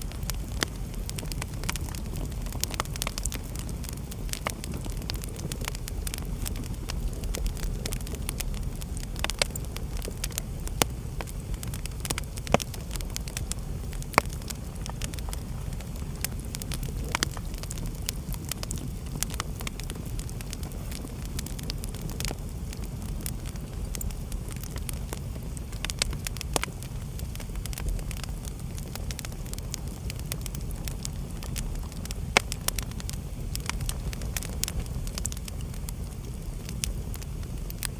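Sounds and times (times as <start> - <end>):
fire crackling and popping: 0.0 - 37.9.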